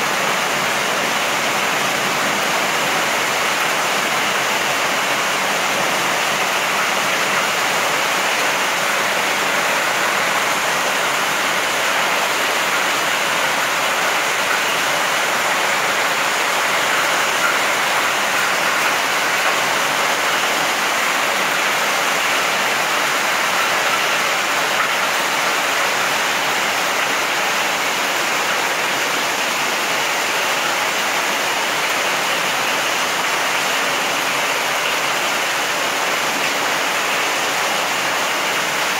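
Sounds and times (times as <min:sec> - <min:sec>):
heavy rain on gravel and leaves: 0:00.0 - 0:38.9.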